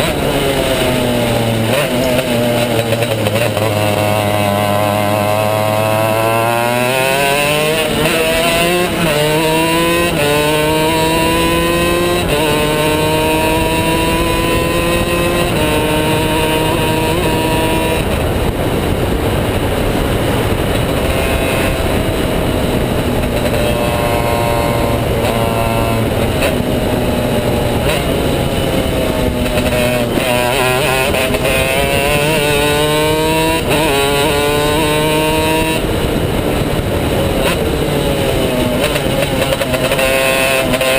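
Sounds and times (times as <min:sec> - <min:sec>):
kart engine at full throttle: 0:00.0 - 0:40.9.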